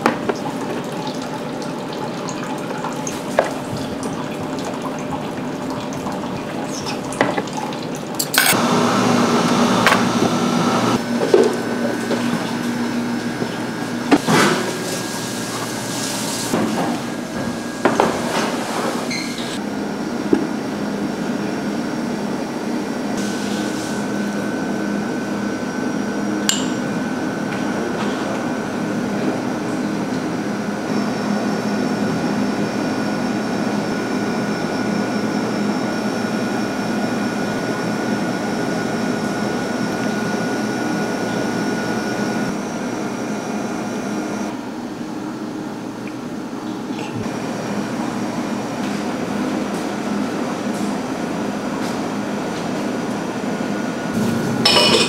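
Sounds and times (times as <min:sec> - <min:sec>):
machine hum with whining tones: 0:00.0 - 0:55.0.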